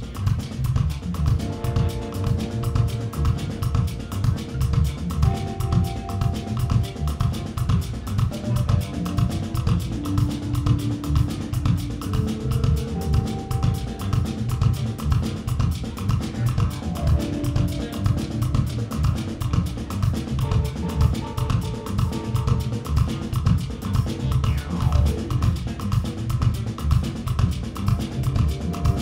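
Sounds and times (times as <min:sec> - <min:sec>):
bass: 0:00.0 - 0:29.0
drum kit: 0:00.0 - 0:29.0
electric guitar: 0:00.0 - 0:29.0.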